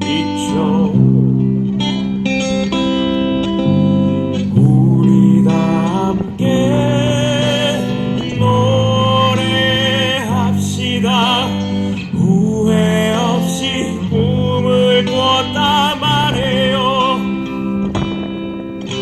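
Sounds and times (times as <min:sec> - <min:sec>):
person singing with vibrato: 0:00.0 - 0:02.0, 0:04.2 - 0:19.0
acoustic guitar strumming: 0:00.0 - 0:19.0.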